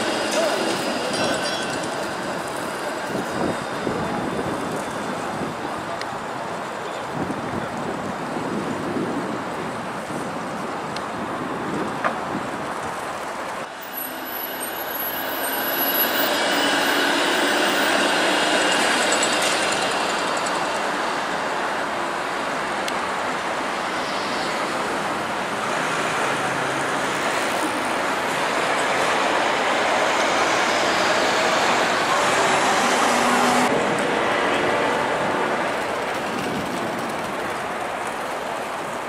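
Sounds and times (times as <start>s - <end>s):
street traffic: 0.0s - 39.0s
streetcar passing on rails: 0.0s - 39.0s.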